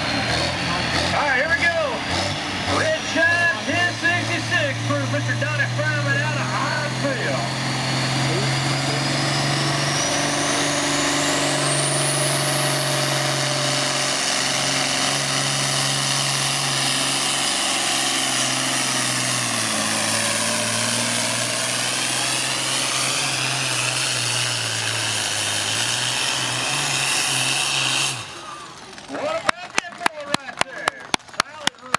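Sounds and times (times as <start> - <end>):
diesel engine revving hard: 0.0 - 29.4.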